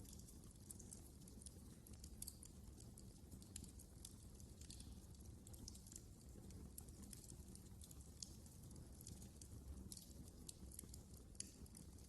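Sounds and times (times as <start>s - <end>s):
fire snapping and popping: 0.0s - 12.0s
low rumble of flames: 0.0s - 12.0s.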